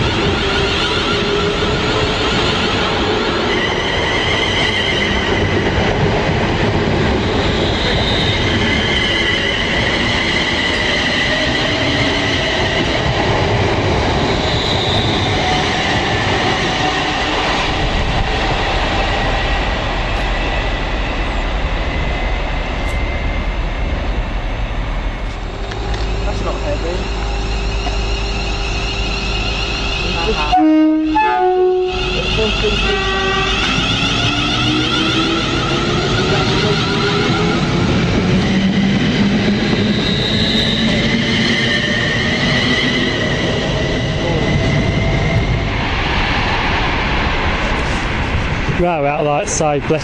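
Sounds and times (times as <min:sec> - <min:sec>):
train rumble: 0:00.0 - 0:50.0.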